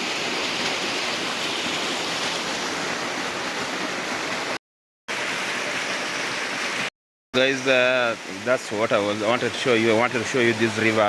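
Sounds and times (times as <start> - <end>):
waterfall and river rushing: 0.0 - 11.0.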